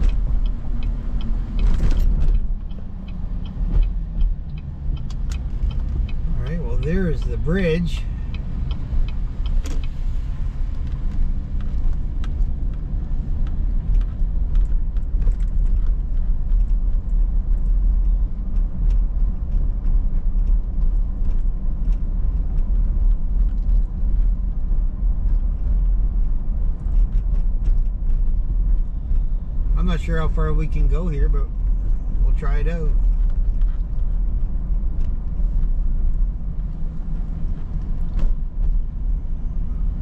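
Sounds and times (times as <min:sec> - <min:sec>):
tyres and engine rumble: 0:00.0 - 0:40.0.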